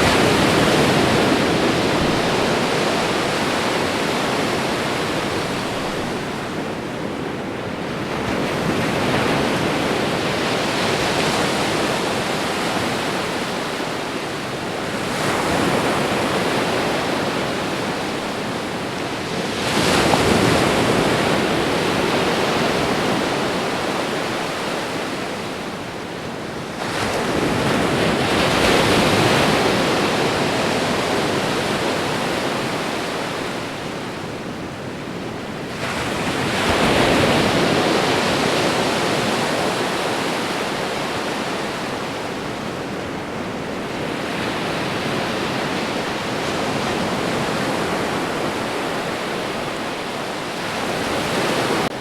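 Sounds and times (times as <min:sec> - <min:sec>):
waves breaking on shore: 0:00.0 - 0:52.0.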